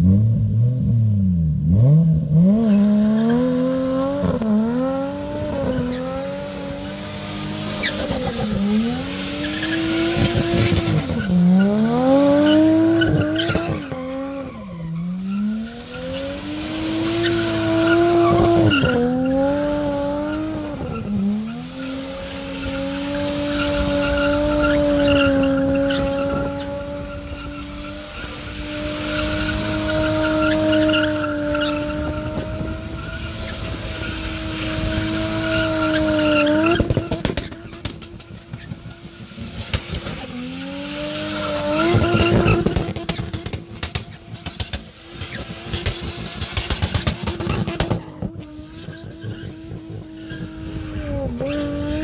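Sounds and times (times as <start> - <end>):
car engine revving hard: 0.0 - 52.0
tyres squealing on asphalt: 2.5 - 52.0.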